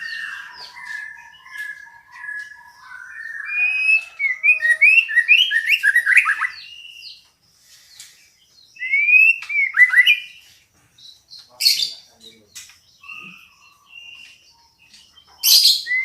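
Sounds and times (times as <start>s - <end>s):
bird whistling and chirping: 0.0s - 7.2s, 7.8s - 10.6s, 12.9s - 16.0s.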